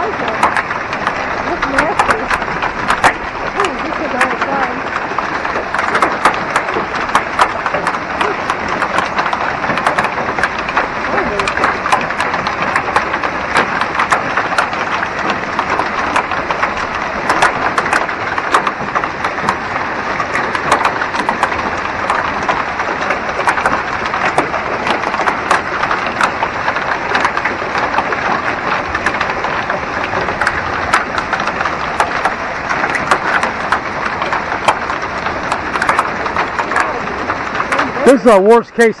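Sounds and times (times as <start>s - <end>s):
hailstones clicking on hard surfaces: 0.0s - 39.0s
heavy rain hissing: 0.0s - 39.0s.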